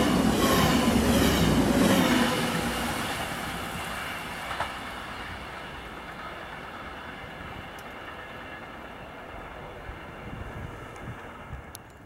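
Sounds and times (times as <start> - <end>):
diesel train receding: 0.0 - 12.0.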